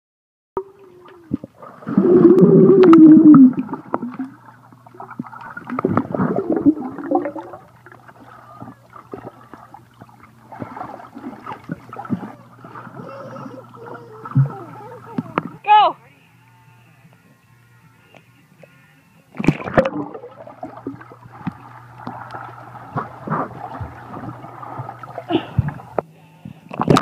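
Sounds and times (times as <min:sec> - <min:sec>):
muffled underwater bubbling: 0:00.6 - 0:15.6, 0:19.4 - 0:26.0
steady low hum: 0:00.6 - 0:26.9.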